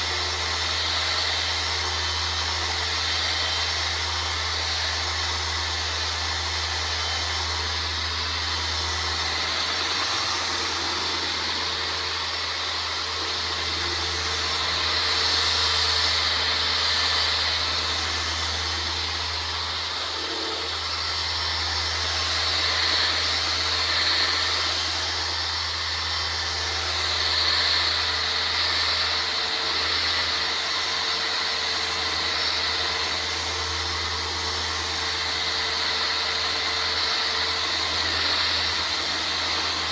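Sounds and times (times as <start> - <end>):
electric sander whirring: 0.0 - 39.9.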